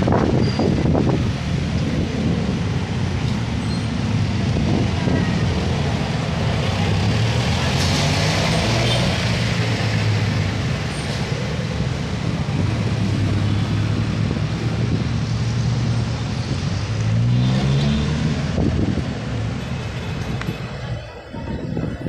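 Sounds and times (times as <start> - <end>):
vehicles passing on wet road: 0.0 - 22.0
engine hum revving up: 0.8 - 19.9.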